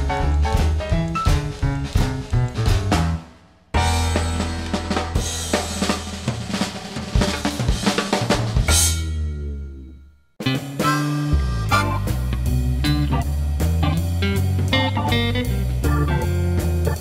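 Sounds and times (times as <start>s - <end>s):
drum kit playing: 0.0s - 9.8s, 10.4s - 17.0s.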